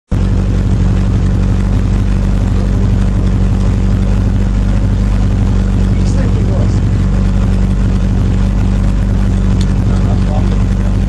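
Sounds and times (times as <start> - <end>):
car engine idling: 0.1 - 11.0.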